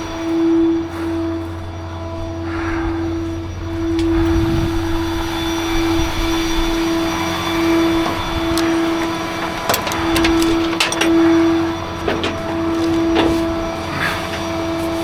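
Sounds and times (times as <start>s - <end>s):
tow truck mechanical whine: 0.0s - 15.0s.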